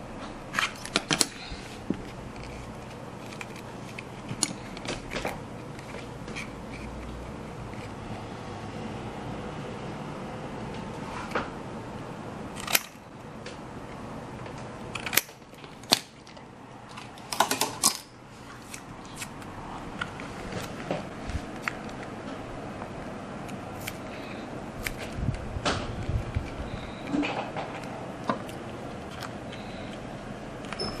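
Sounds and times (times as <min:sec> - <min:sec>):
low steady background hum: 0:00.0 - 0:31.0.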